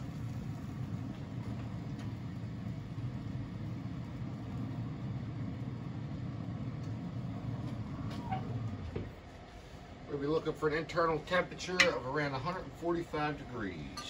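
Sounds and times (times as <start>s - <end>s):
steady low rumbling: 0.0s - 13.9s.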